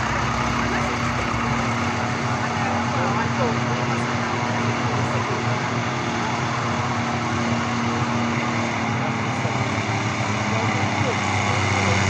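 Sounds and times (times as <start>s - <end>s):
truck engine running steadily: 0.0s - 12.0s.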